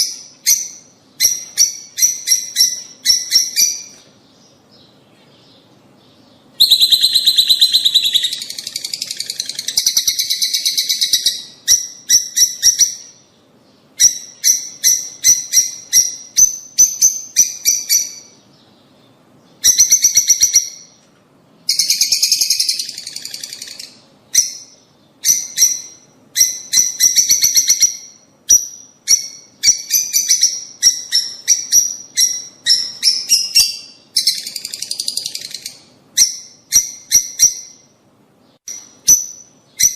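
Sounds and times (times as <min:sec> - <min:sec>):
lovebirds chirping and chattering: 0:00.0 - 0:39.9.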